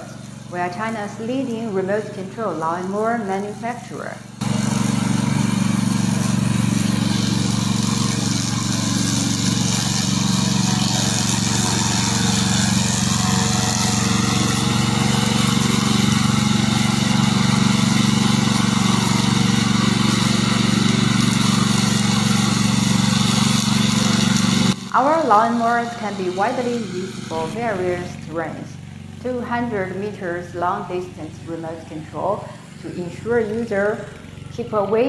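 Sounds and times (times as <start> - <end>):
mower engine running: 0.0 - 35.0.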